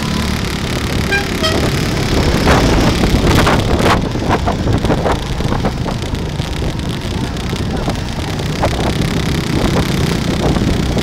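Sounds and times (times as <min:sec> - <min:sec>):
motorcycle engine running: 0:00.0 - 0:11.0
wind buffeting microphone: 0:00.8 - 0:11.0.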